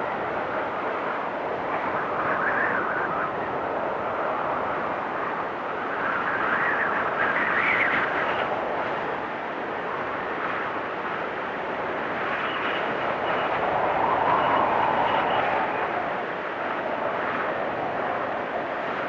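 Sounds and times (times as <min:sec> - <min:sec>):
blizzard wind gusting and whistling: 0:00.0 - 0:19.0.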